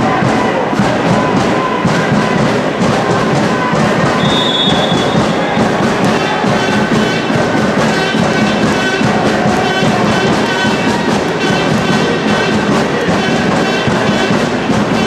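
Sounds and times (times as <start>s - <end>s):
brass and drums music: 0.0s - 15.0s.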